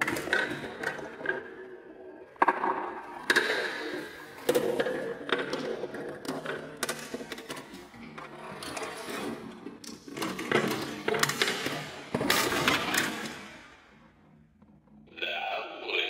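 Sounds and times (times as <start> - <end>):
marbles rolling on wooden ramps: 0.0 - 14.8.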